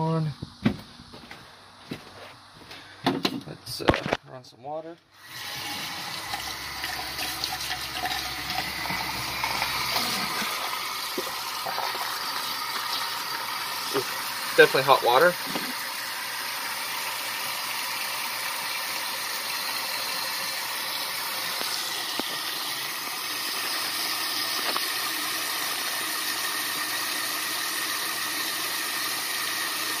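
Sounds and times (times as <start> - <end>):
tap water running into sink: 5.2 - 30.0
water pump running: 5.2 - 30.0.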